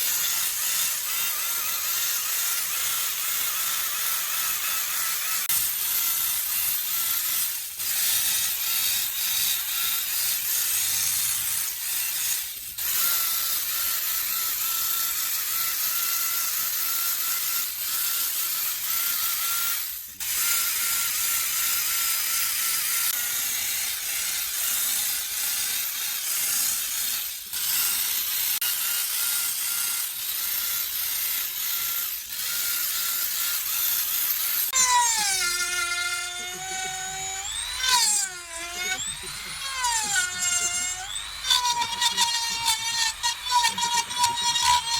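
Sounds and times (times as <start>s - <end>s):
power carving tool grinding wood: 0.0s - 44.9s.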